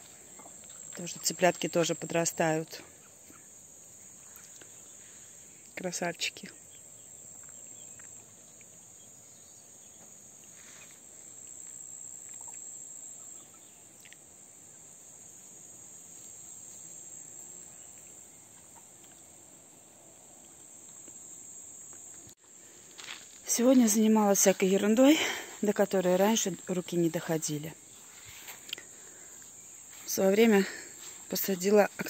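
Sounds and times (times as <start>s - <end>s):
insects singing: 0.0s - 32.0s.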